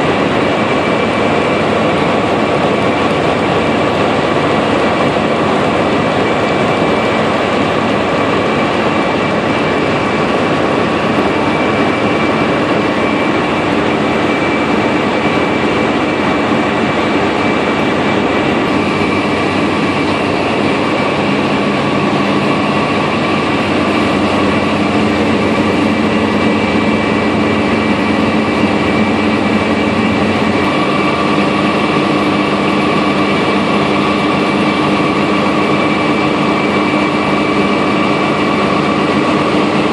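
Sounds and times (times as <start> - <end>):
drilling rig machinery running: 0.0 - 39.9
steady mechanical whining tones: 0.0 - 39.9.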